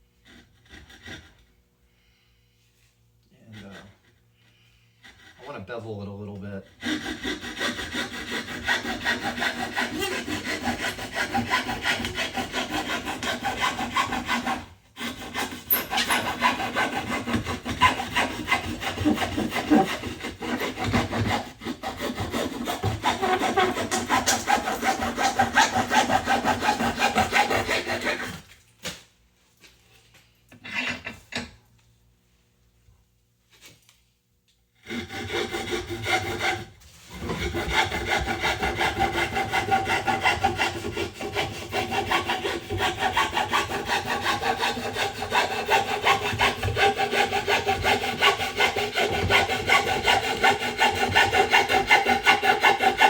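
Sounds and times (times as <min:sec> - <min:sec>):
hand tool rasping drywall: 0:00.0 - 0:01.6, 0:03.3 - 0:28.6, 0:34.8 - 0:53.0.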